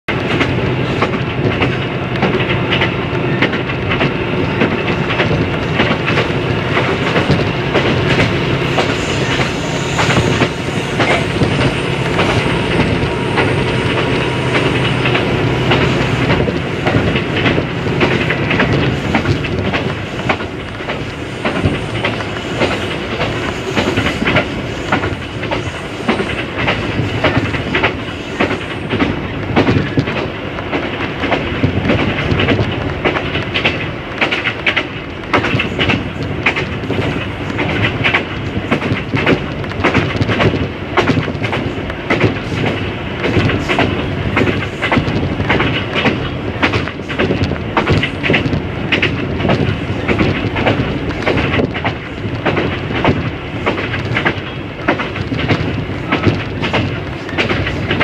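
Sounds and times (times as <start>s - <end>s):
train rumbling: 0.0s - 58.0s
wheels clattering over rail joints: 0.1s - 58.0s.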